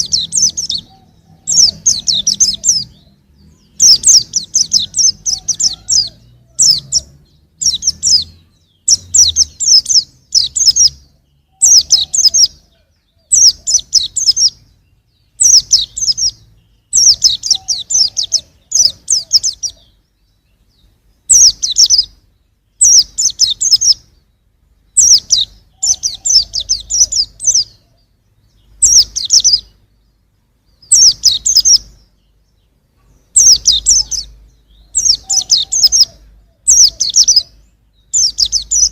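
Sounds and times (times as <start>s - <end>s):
bird twittering: 0.0s - 38.9s.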